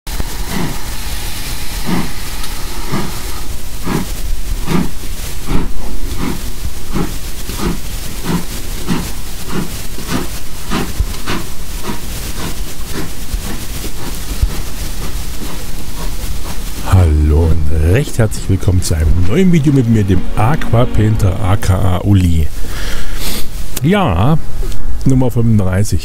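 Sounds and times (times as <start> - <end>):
steam locomotive chuffing: 0.1 - 23.6
steady steam hiss: 0.1 - 26.0.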